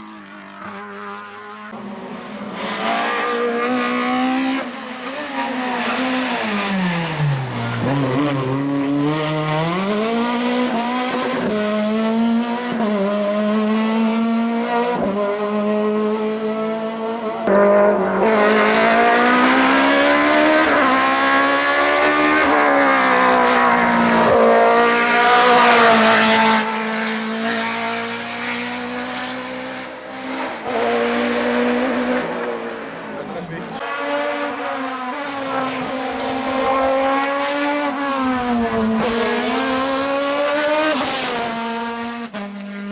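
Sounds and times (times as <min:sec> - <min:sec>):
race car engines revving: 0:00.0 - 0:42.9.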